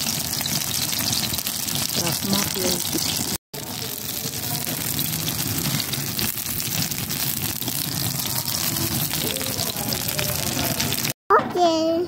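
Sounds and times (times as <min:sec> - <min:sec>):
meat sizzling in oil: 0:00.0 - 0:11.2.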